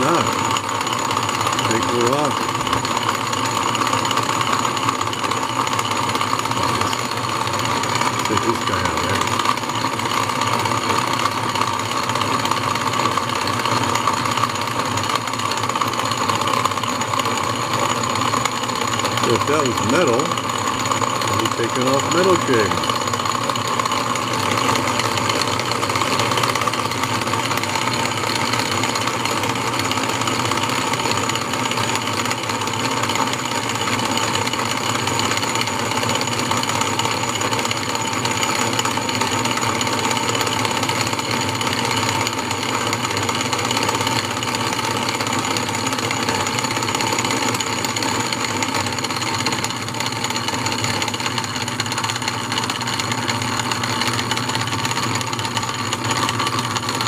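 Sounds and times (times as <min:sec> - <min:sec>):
lathe running with high whine: 0:00.0 - 0:57.0.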